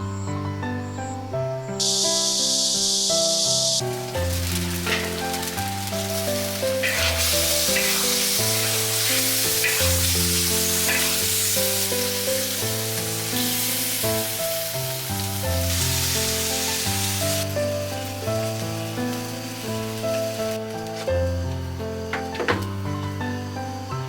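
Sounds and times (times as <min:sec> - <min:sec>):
food sizzling in a hot pan: 0:01.8 - 0:24.0.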